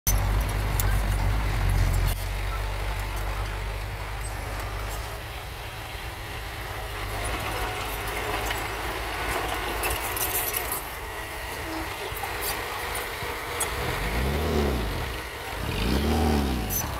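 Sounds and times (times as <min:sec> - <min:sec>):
bulldozer diesel engine: 0:00.0 - 0:16.9.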